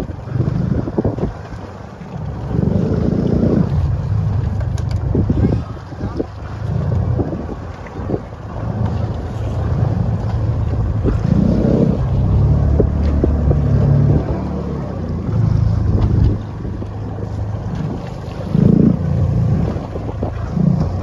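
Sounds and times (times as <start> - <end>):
boat engine droning: 0.0 - 21.0
wind on microphone: 0.0 - 21.0.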